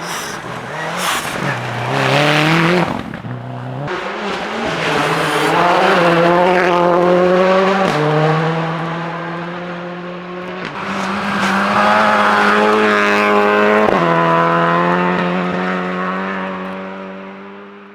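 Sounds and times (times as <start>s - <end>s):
rally car engine revving: 0.0s - 17.9s.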